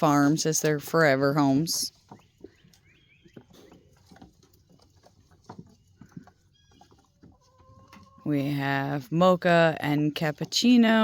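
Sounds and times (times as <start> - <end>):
goat hooves tapping and shuffling: 0.0 - 11.0.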